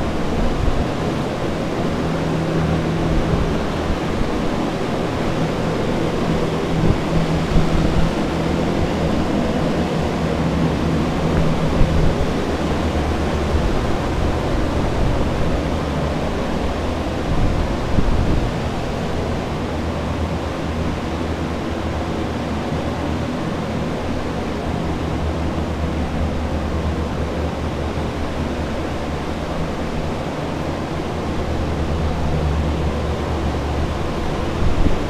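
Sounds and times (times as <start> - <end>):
air mover fans rushing: 0.0 - 35.0
low hum: 0.0 - 35.0.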